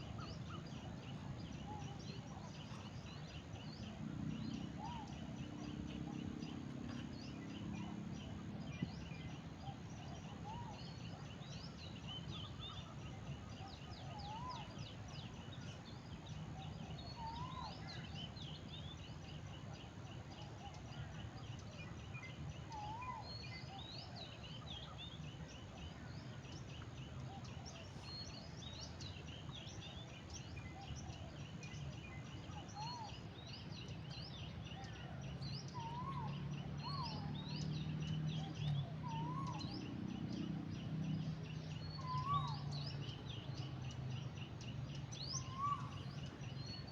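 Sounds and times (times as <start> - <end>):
low steady background noise: 0.0 - 46.9.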